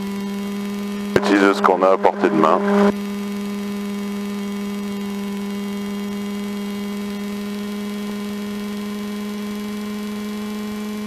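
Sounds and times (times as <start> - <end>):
propeller plane engine humming: 0.0 - 11.0.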